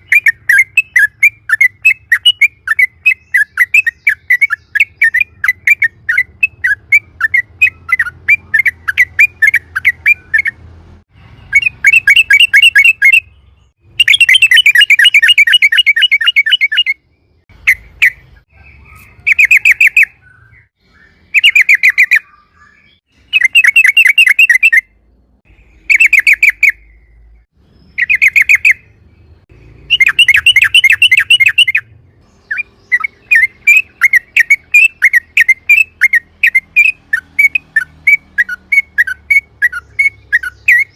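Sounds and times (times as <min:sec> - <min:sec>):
bird singing rapid trills: 0:00.0 - 0:40.9.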